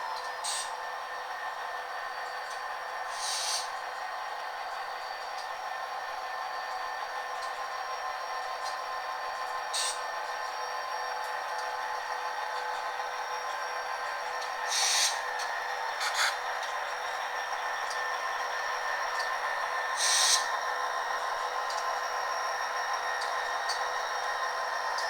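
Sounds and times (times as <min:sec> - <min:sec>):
electronic locomotive engine hum: 0:00.0 - 0:25.0.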